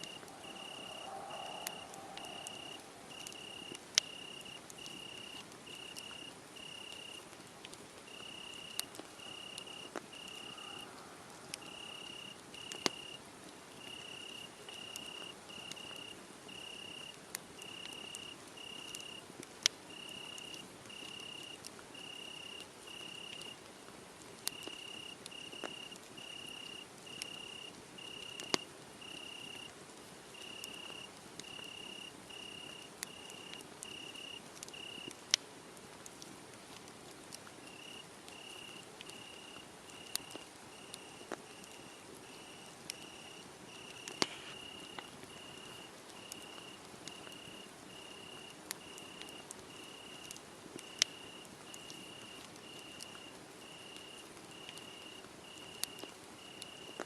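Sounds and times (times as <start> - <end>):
crickets chirping: 0.0 - 7.2, 8.1 - 13.2, 13.8 - 19.2, 19.9 - 23.6, 24.5 - 29.7, 30.3 - 35.1, 37.6 - 57.0
wood fire pops and crackles: 0.0 - 10.7, 11.3 - 16.0, 17.0 - 54.8, 55.4 - 57.0.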